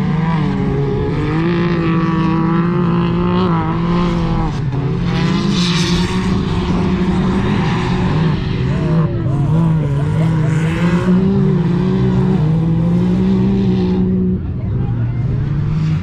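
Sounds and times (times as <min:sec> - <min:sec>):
utility vehicle engine revving high: 0:00.0 - 0:16.0.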